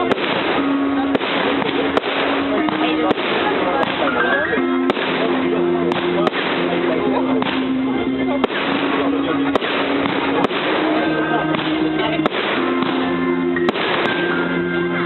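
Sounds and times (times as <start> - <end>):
fireworks crackling: 0.0 - 15.0
music with held notes: 0.0 - 15.0.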